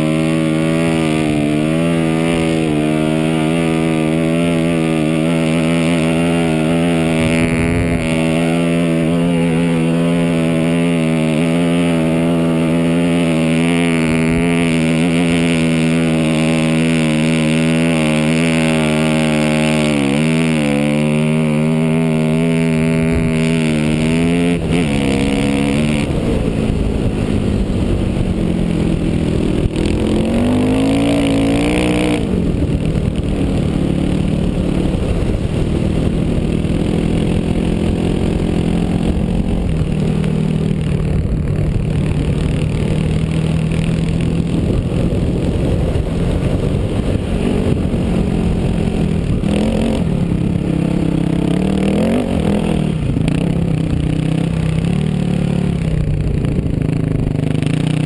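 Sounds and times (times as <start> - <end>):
motorcycle engine pulling hard: 0.0 - 58.0.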